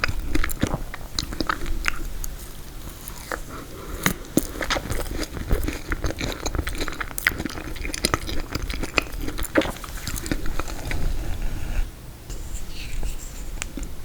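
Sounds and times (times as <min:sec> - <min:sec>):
crunchy chewing: 0:00.0 - 0:11.7.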